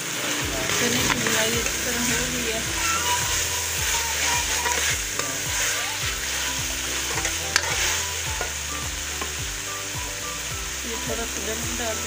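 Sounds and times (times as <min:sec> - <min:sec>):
chickpeas sizzling in a pan: 0:00.0 - 0:12.0.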